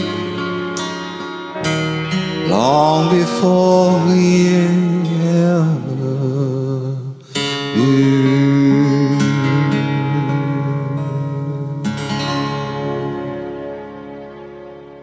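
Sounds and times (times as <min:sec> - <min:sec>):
acoustic guitar chords strummed: 0:00.0 - 0:15.0.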